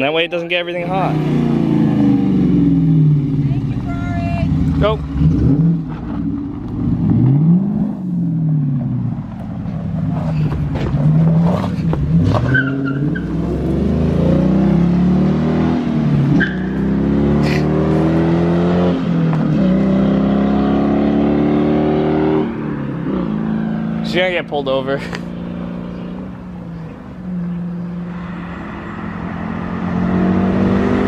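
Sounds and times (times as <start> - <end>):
car engine revving and accelerating: 0.5 - 3.5, 4.5 - 31.0.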